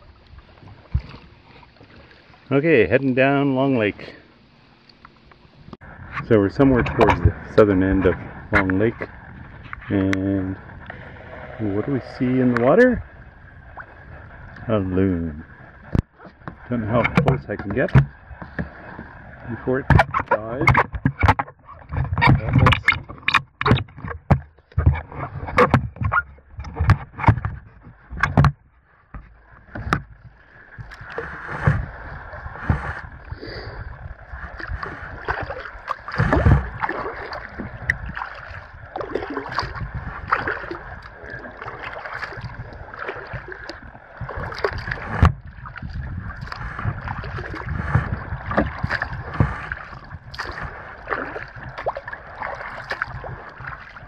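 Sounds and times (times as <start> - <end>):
paddle dipping and dripping: 0.0 - 54.0
water lapping along hull: 0.0 - 54.0.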